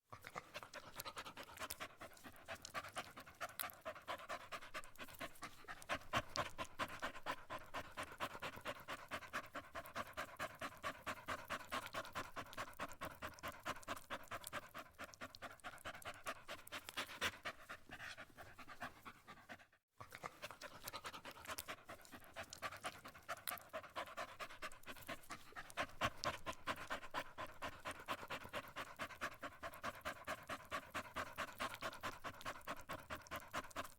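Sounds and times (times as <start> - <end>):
animal panting: 0.1 - 33.9.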